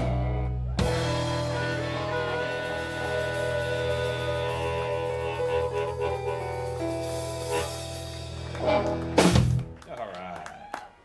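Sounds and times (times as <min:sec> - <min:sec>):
live blues band music: 0:00.0 - 0:09.9.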